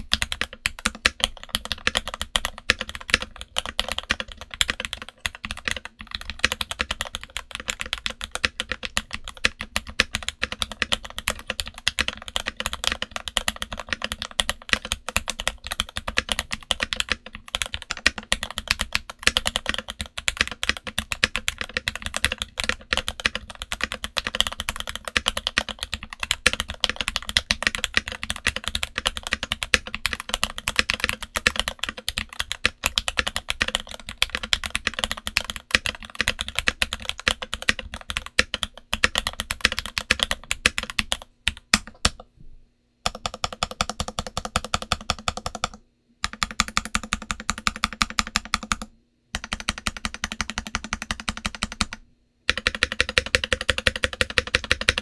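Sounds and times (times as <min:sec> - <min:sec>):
mechanical keyboard typing: 0:00.0 - 0:42.3, 0:43.1 - 0:55.0.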